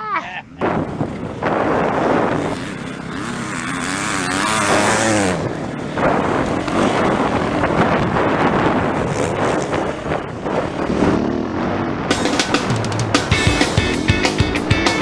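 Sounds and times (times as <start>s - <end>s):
dirt bike engine revving: 0.5s - 15.0s
wind rushing: 0.6s - 15.0s.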